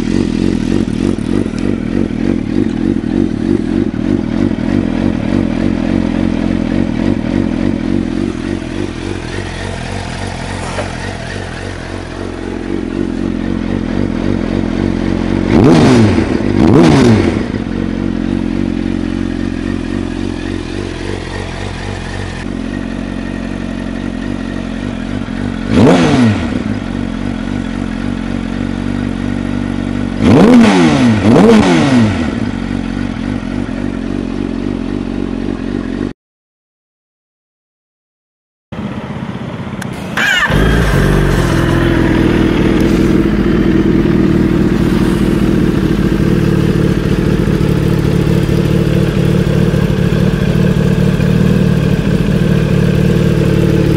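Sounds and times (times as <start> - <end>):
motorcycle engine idling and revving: 0.0 - 36.2, 38.8 - 53.9.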